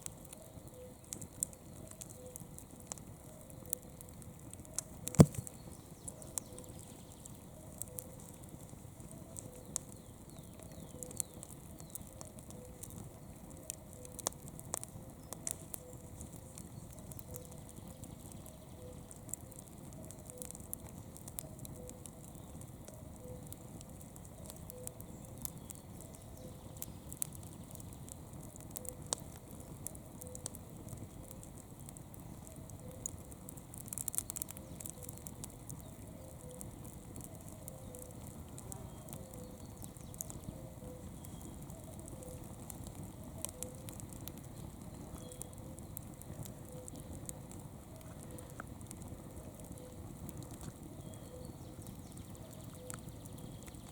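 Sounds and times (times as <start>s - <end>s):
campfire wood crackling and popping: 0.0s - 53.9s
low steady fire rush: 0.0s - 53.9s.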